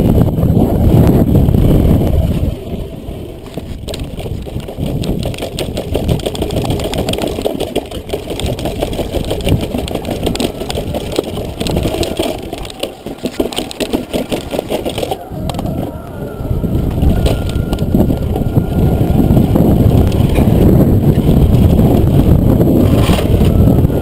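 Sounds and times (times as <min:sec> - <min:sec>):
bike rattling: 0:00.0 - 0:24.0
bike tyres rumbling on paving: 0:00.0 - 0:24.0.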